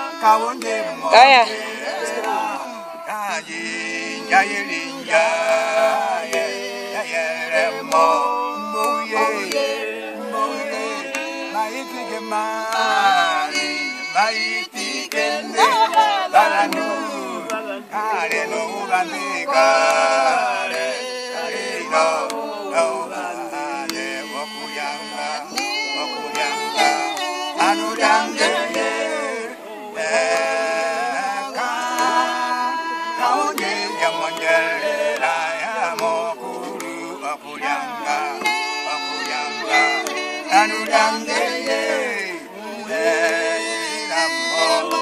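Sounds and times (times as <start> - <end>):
voices singing together: 0.0 - 45.0.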